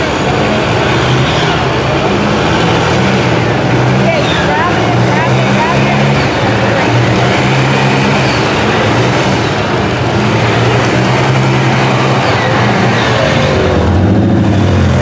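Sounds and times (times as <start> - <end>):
loud engine drone: 0.0 - 15.0
tires churning mud: 0.0 - 15.0.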